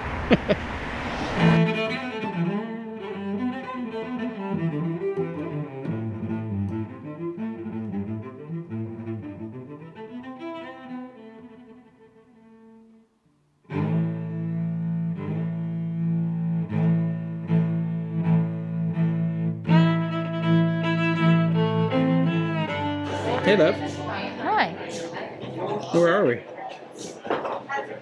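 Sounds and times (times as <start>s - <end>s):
music with low bowed strings: 1.4s - 13.0s, 13.6s - 25.0s.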